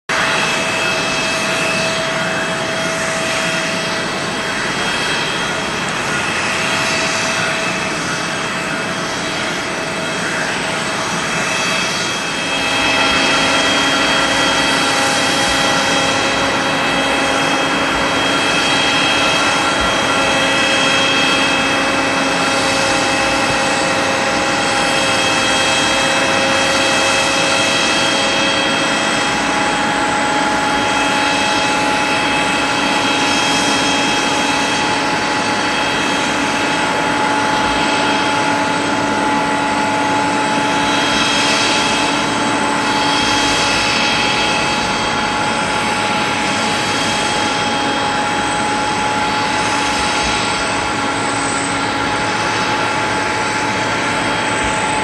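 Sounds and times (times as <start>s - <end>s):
jet turbines whining: 0.1s - 55.0s.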